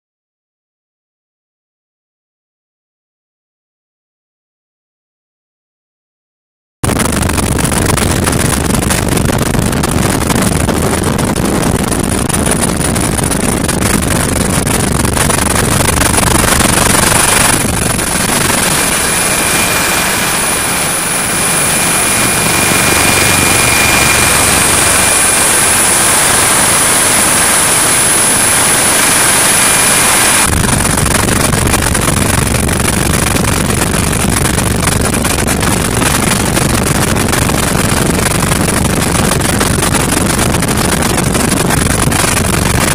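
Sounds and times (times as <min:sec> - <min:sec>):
helicopter in flight: 0:06.8 - 0:42.9
steady high whine: 0:06.8 - 0:42.9.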